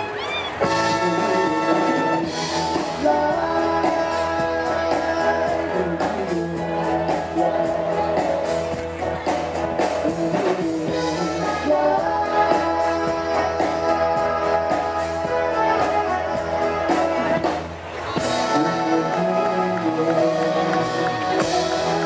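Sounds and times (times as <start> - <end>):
band playing live: 0.0 - 22.0.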